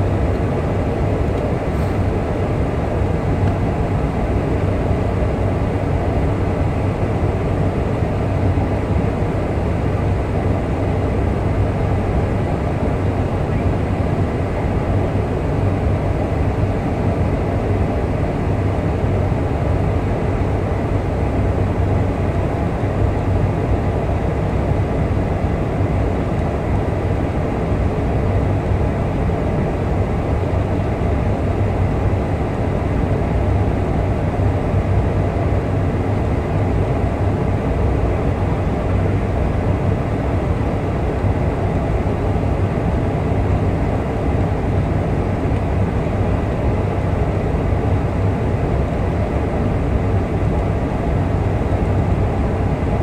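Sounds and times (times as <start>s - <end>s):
aircraft engines and rushing air: 0.0s - 53.0s.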